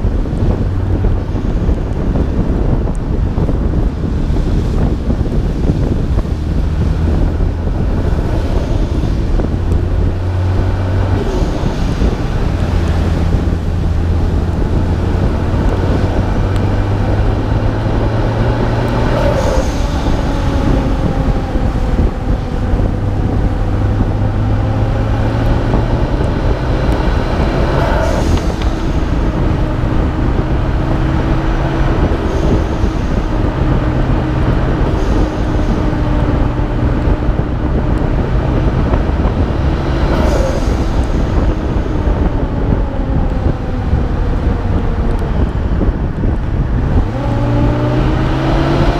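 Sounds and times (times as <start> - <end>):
car engine revving: 0.0 - 48.9
wet road and wind noise: 0.0 - 48.9.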